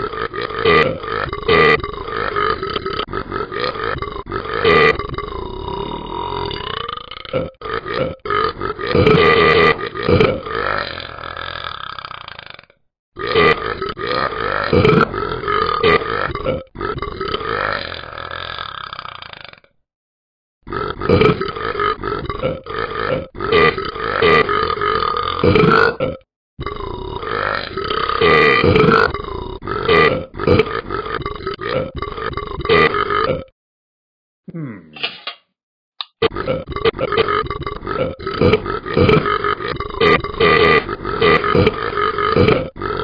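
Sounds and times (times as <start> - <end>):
dog burping: 0.0 - 19.7, 20.7 - 33.5, 36.1 - 43.0.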